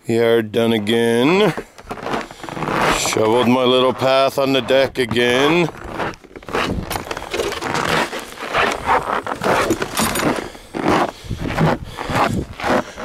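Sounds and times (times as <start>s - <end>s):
footsteps crunching in snow: 0.8s - 13.0s.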